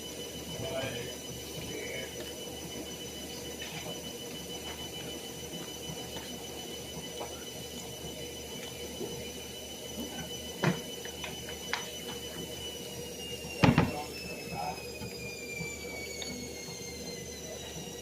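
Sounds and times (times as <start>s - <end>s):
high-pitched electrical whine: 0.0s - 18.0s.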